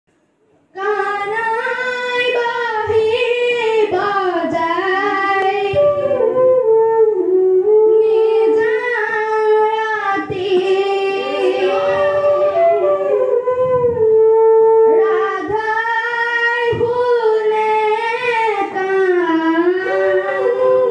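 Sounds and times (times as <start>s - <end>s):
boy singing a devotional chant: 0.7s - 20.9s.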